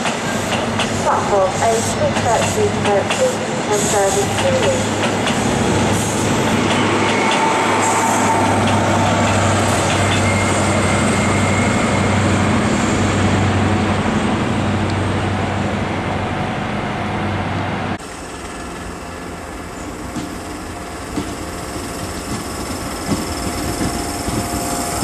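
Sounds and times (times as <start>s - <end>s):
diesel train engine drone: 0.0s - 25.0s
quiet station background: 0.0s - 25.0s
train wheels rumbling on rails: 0.0s - 25.0s.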